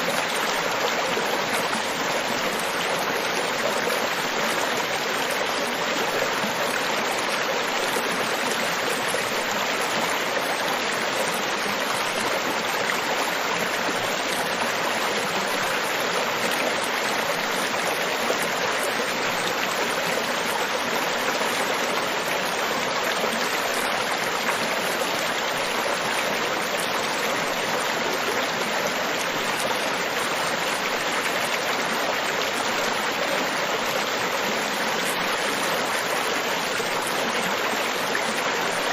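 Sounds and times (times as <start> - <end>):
rush of water: 0.0 - 38.9.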